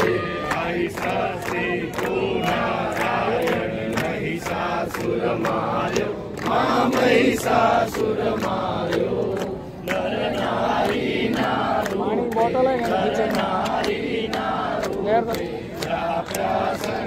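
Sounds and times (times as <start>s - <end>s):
crowd singing in unison: 0.0s - 17.0s
hand claps keeping time: 0.0s - 17.0s.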